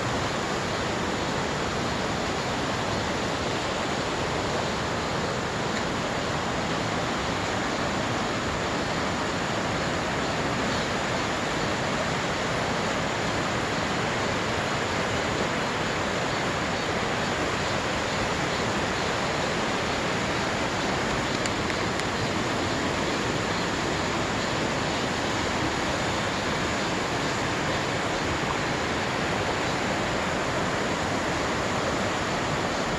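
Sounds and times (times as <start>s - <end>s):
water rushing: 0.0s - 32.9s.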